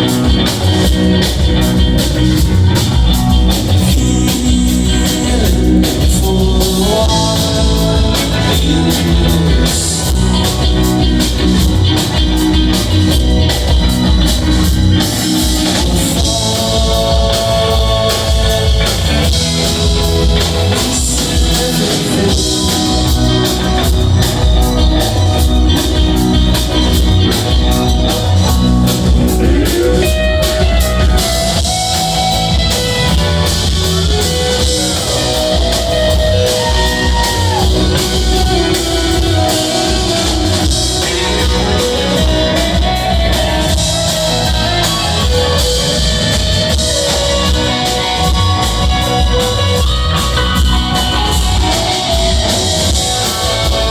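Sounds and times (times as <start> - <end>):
drum kit: 0.0 - 53.9
electric guitar lead: 0.0 - 53.9.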